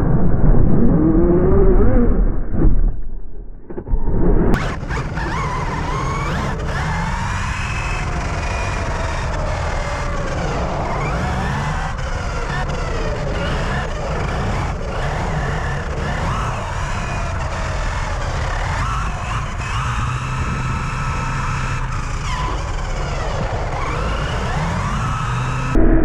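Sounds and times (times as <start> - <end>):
rumble of driving noise: 4.5 - 26.0
electric motors whining: 4.6 - 25.8.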